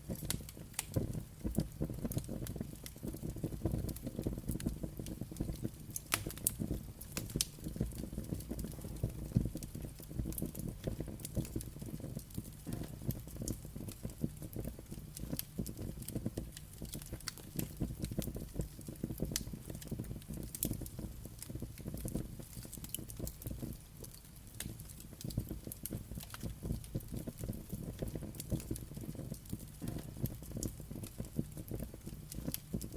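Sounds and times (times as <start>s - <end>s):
fire crackling and popping: 0.0s - 32.9s
wood fire rumbling: 0.0s - 32.9s.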